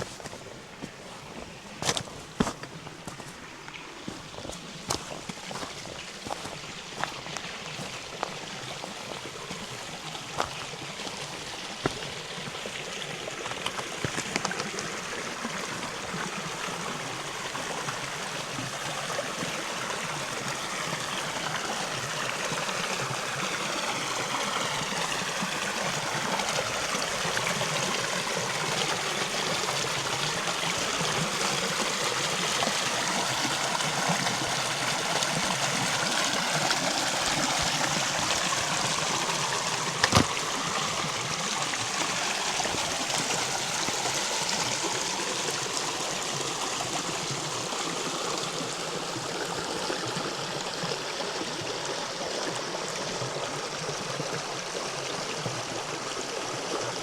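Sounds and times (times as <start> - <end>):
river water over stones: 0.0 - 57.0.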